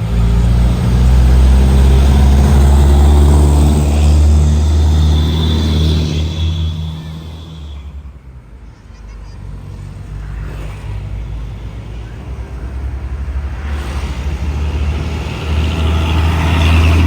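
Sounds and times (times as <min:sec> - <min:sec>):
truck diesel engine rumble: 0:00.0 - 0:17.0
tyre and road noise: 0:00.0 - 0:17.0.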